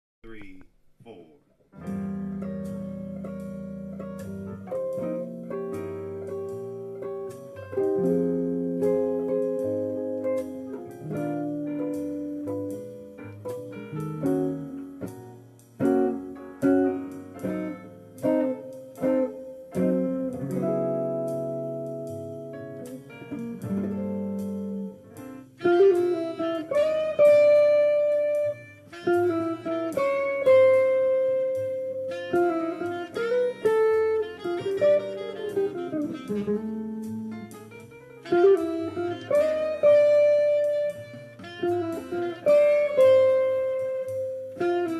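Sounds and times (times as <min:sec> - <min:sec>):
instrumental jazz: 0:00.2 - 0:44.9.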